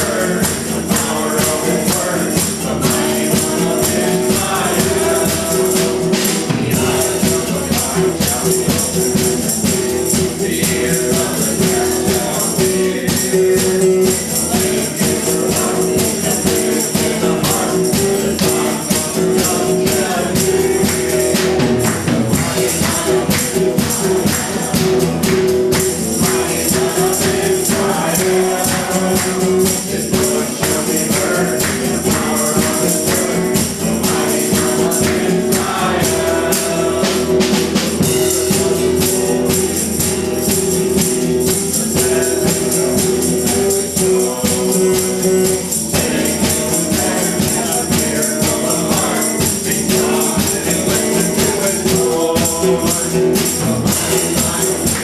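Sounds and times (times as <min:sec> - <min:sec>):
acoustic guitar: 0:00.0 - 0:55.0
drum kit with cymbals: 0:00.0 - 0:55.0
voices singing together: 0:00.0 - 0:55.0.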